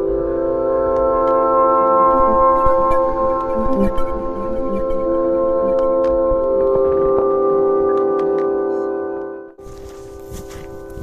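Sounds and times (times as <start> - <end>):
organ-like sustained chord: 0.0 - 11.0.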